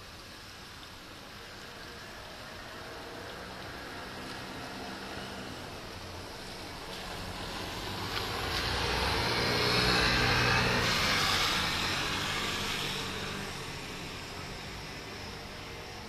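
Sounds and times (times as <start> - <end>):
rain hissing: 0.0 - 16.0
vehicle passing on wet road: 0.7 - 16.0.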